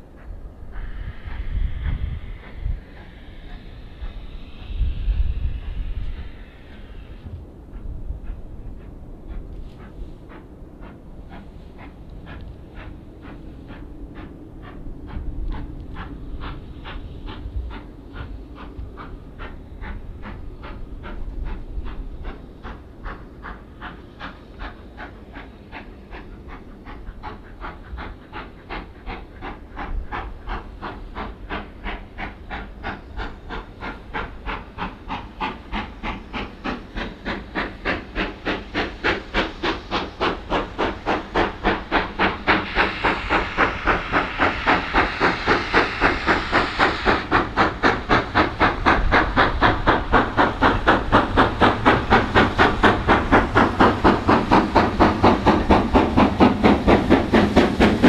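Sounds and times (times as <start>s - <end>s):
hissing steam: 0.0s - 58.0s
steam locomotive exhaust beats: 0.0s - 58.0s.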